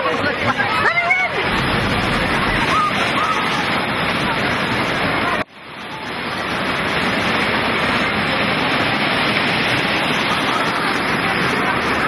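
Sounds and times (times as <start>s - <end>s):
surf rushing: 0.0s - 12.0s
wind: 0.0s - 12.0s.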